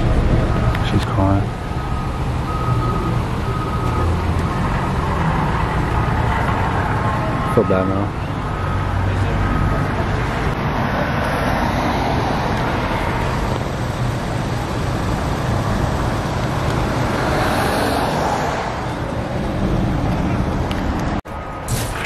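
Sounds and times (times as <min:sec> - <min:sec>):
car engine hum: 0:00.0 - 0:21.2
road noise: 0:00.0 - 0:22.0.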